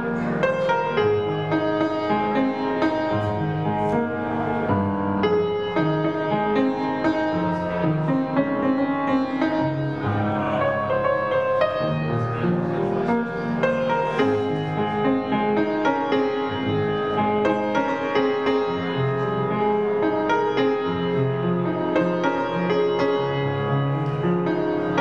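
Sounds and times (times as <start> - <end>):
slow solo piano piece: 0.0 - 25.0.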